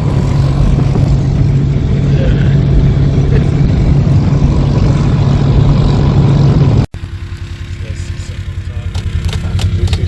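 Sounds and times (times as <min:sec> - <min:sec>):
road and wind noise: 0:00.0 - 0:10.0
vehicle engine hum: 0:00.0 - 0:10.0.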